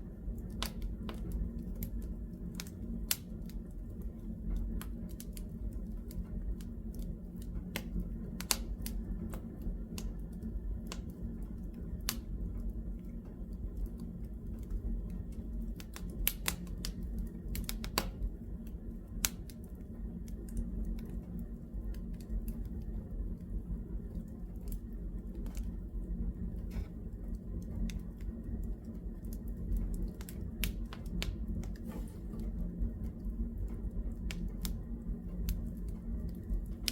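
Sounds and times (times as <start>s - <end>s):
low rumble of burning logs: 0.0s - 36.9s
wood fire crackling: 0.0s - 36.9s
fire pops and snaps: 0.3s - 36.9s.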